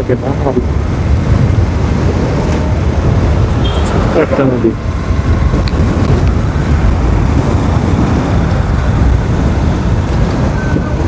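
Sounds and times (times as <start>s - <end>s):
road and traffic noise: 0.0s - 11.0s
wind rushing on microphone: 0.0s - 11.0s.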